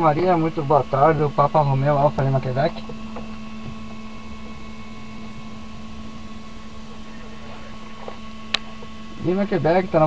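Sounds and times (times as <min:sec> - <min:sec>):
airplane engine and propeller drone: 0:00.0 - 0:10.0.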